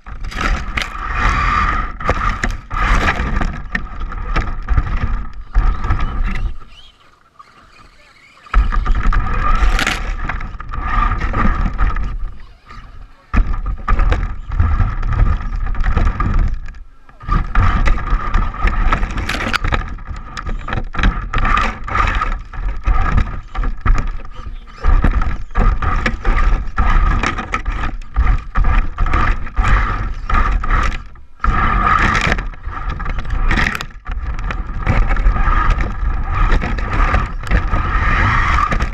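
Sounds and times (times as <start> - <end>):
electric motor whine: 0.0 - 33.8
tyres on gravel: 0.0 - 38.9.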